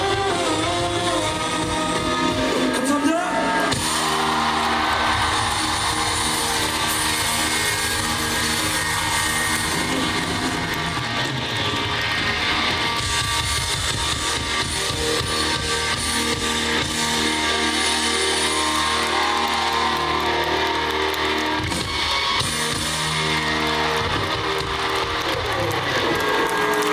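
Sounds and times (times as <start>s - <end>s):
live rock band playing: 0.0s - 2.9s, 3.8s - 26.9s.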